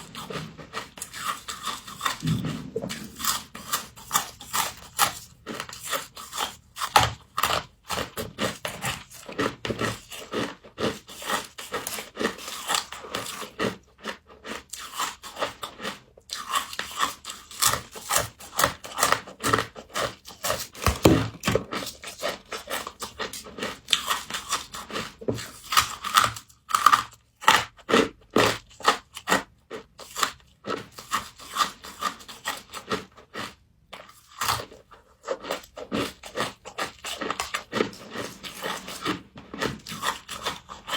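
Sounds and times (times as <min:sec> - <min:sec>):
chewing crunchy ice: 0:00.0 - 0:40.9.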